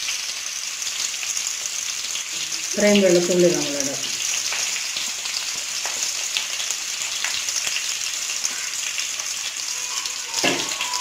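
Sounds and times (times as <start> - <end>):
shallots sizzling in hot oil: 0.0 - 11.0.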